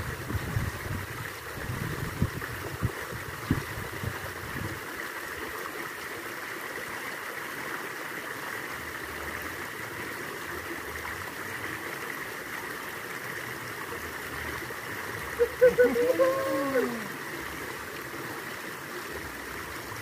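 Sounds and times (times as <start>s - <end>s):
shallow stream flowing: 0.0s - 20.0s.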